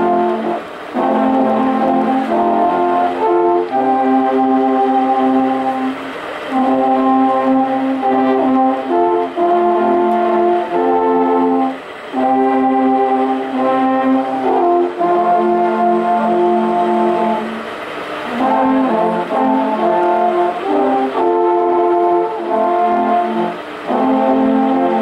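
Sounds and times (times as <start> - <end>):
alphorns playing slow tune: 0.0 - 25.0.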